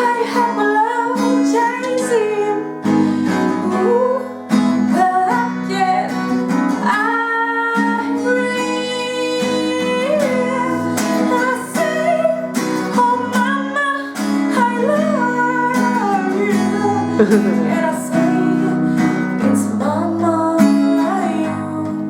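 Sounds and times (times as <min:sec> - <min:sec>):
person singing: 0:00.0 - 0:06.2, 0:06.8 - 0:22.0
acoustic guitar: 0:00.0 - 0:22.0.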